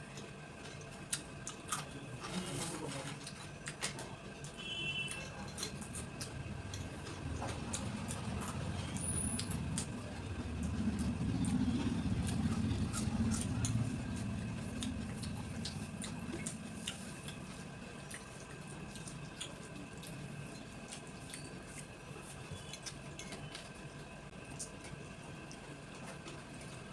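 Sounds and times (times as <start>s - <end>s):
chewing: 0.0s - 26.9s.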